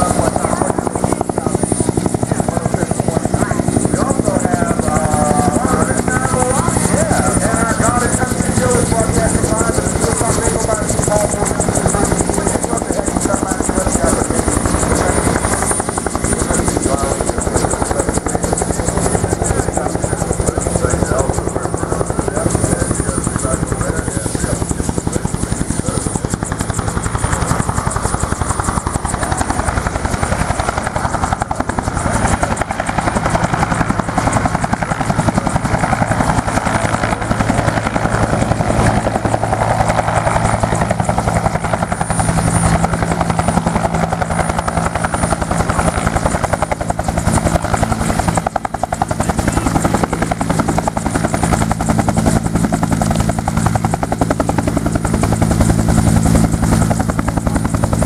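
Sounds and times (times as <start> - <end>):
helicopter rotor chopping: 0.0 - 58.0.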